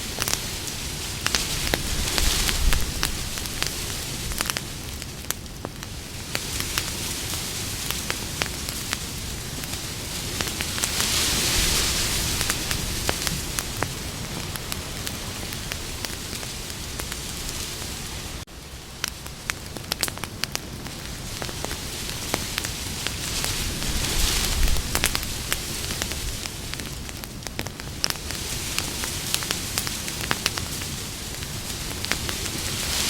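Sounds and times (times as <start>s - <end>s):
campfire crackling and popping: 0.0s - 33.0s
fire hissing: 0.0s - 33.0s.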